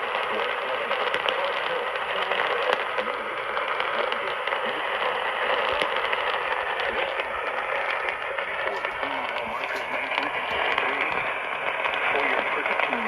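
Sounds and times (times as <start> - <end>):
faint voice: 0.0 - 13.0
radio static: 0.0 - 13.0.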